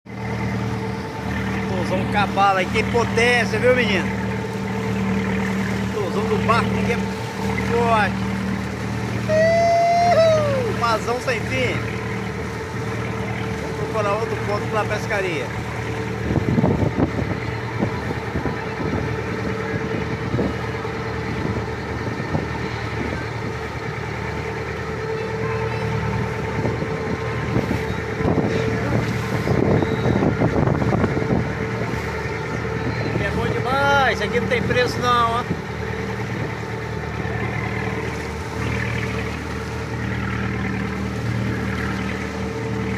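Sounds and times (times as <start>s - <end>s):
motorboat engine running: 0.0s - 42.9s
wind: 0.0s - 42.9s.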